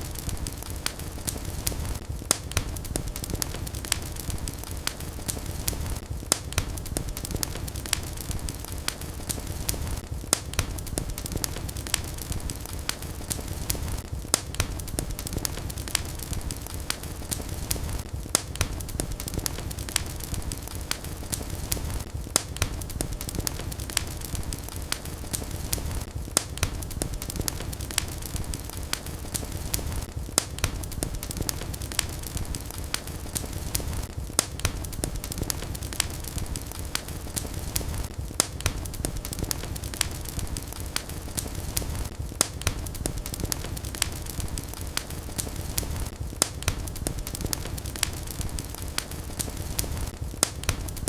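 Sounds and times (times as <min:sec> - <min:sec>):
low rumble of fire: 0:00.0 - 0:51.0
wood fire crackling and popping: 0:00.0 - 0:51.0.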